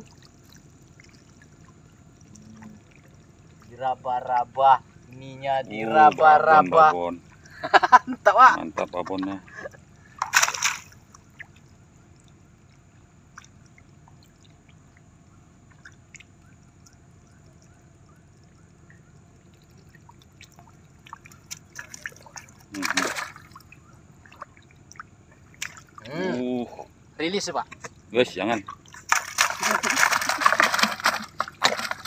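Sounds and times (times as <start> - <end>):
muddy water splashing: 0.0 - 32.0
water dripping: 0.0 - 32.0.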